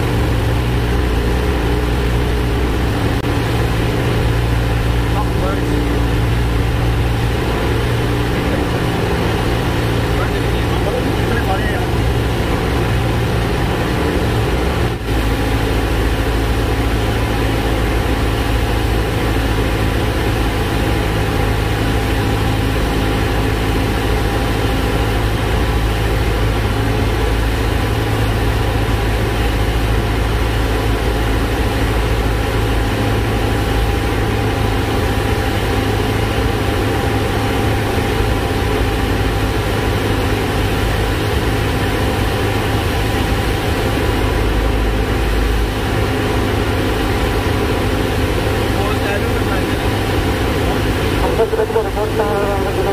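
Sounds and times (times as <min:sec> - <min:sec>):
aircraft engine and propeller running: 0:00.0 - 0:52.9.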